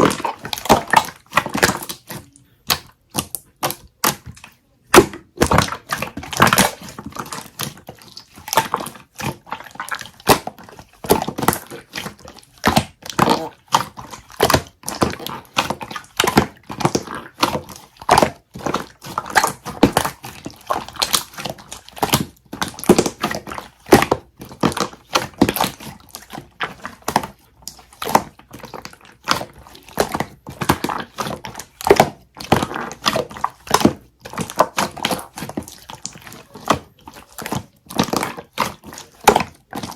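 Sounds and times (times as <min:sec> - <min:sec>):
slime clicking and crackling: 0:00.0 - 0:39.9.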